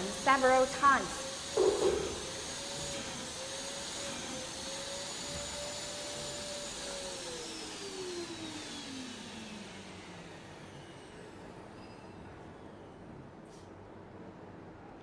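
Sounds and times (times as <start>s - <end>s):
vacuum cleaner motor whining: 0.0s - 12.1s.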